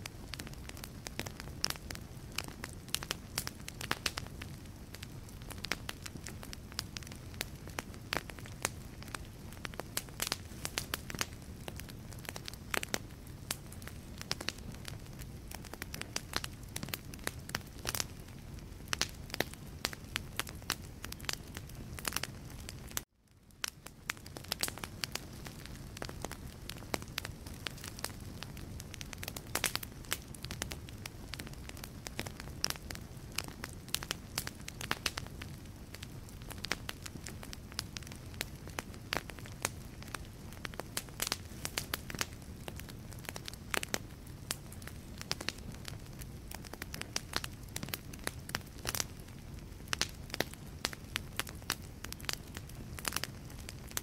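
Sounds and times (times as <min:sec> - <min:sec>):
fire crackling and popping: 0:00.0 - 0:54.0
low rumble of flame: 0:00.0 - 0:54.0.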